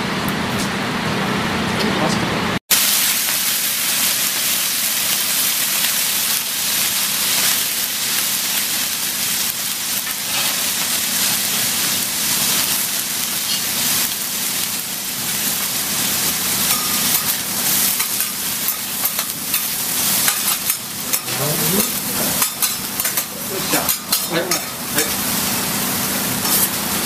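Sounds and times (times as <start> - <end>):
noodles sizzling on a griddle: 2.7 - 27.0.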